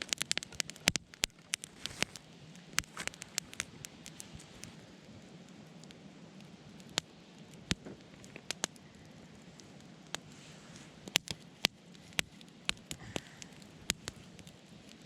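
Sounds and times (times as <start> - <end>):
fire hissing softly: 0.0 - 15.0
wood fire crackling: 0.0 - 15.0.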